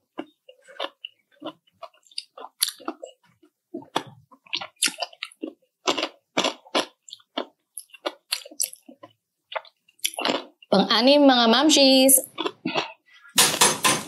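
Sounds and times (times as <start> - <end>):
chewing with crisp crunches: 0.0 - 10.7, 12.2 - 13.4.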